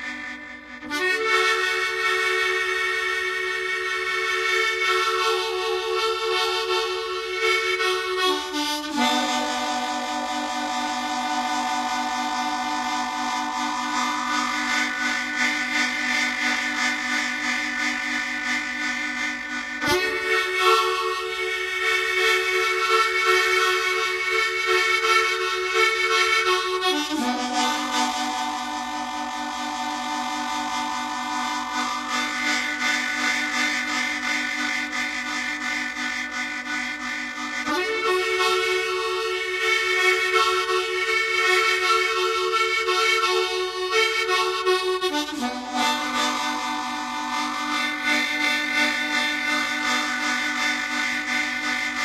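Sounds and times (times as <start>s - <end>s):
harmonica playing chords: 0.0s - 52.0s.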